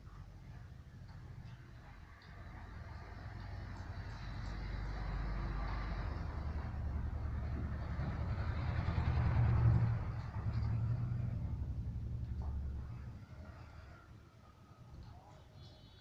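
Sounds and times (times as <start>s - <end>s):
motor vehicle passing: 0.0s - 14.4s.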